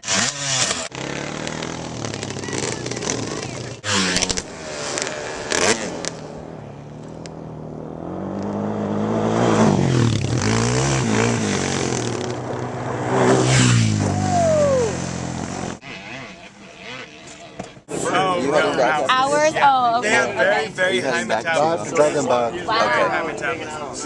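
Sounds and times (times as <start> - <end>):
quad bikes riding past: 0.0 - 24.0.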